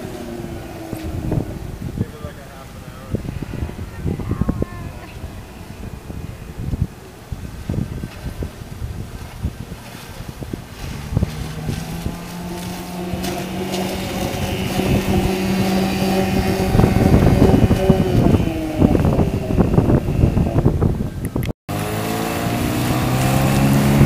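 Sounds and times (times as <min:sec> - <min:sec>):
outboard motor passing by: 0:00.0 - 0:24.0
wind buffeting microphone: 0:00.0 - 0:24.0.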